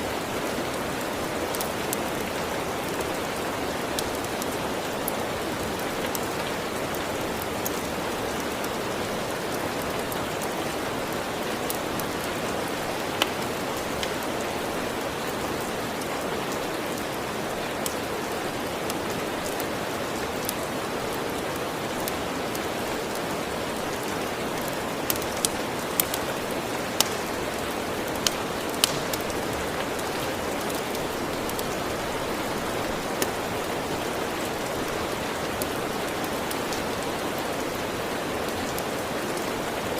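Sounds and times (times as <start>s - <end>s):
steady rain: 0.0s - 39.9s
wood fire crackles: 0.0s - 39.9s.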